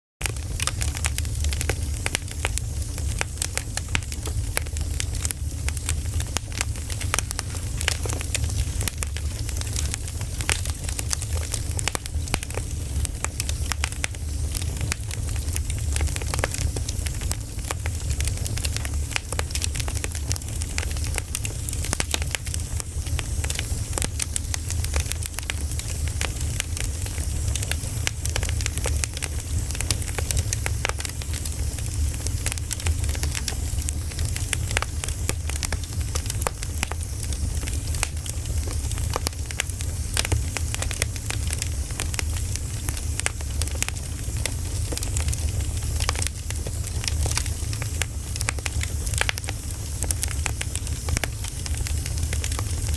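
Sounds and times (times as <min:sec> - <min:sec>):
campfire logs crackling and popping: 0:00.2 - 0:52.9
low fire rumble: 0:00.2 - 0:52.9.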